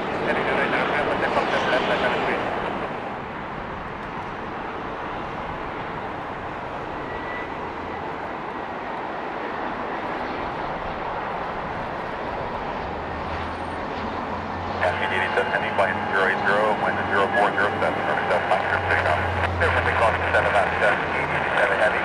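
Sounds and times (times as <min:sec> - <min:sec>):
jet engine rush: 0:00.0 - 0:22.0.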